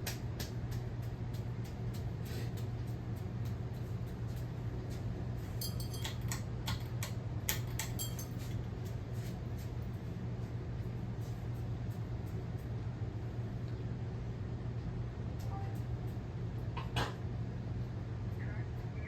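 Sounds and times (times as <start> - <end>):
ceiling fan humming: 0.0 - 19.0.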